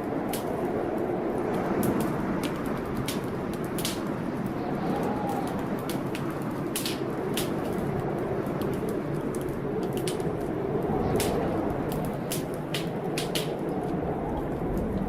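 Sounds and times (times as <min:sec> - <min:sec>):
blizzard wind rushing: 0:00.0 - 0:15.0
fire crackling and popping: 0:00.0 - 0:15.0.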